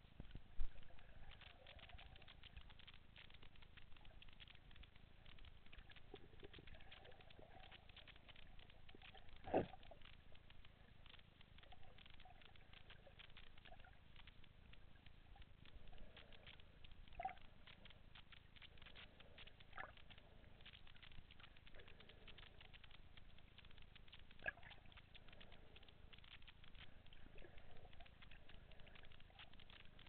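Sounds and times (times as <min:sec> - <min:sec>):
underwater crackling and clicking: 0:00.0 - 0:30.0.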